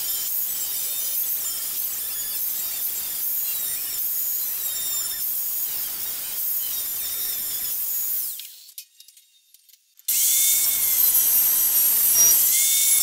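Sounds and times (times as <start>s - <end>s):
angle grinder grinding metal: 0.0s - 9.2s, 9.9s - 13.0s.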